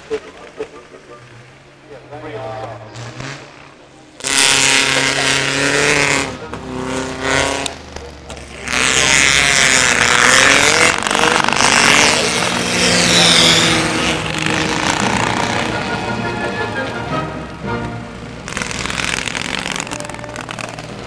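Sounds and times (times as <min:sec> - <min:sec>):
racing car engines passing: 0:00.0 - 0:21.0.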